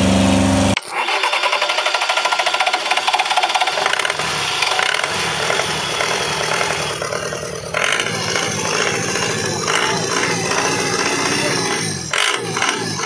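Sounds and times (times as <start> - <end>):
diesel engine running roughly: 0.0 - 13.0
starter motor turning: 0.0 - 13.0.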